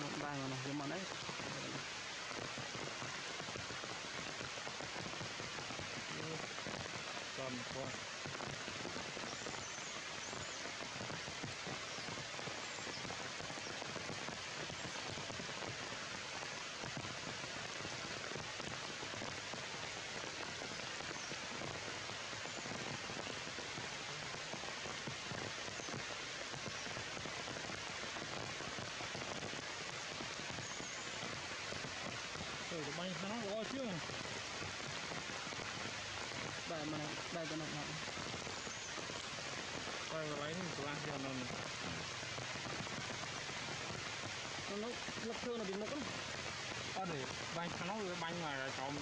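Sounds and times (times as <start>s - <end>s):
heavy rain on leaves: 0.0s - 49.0s.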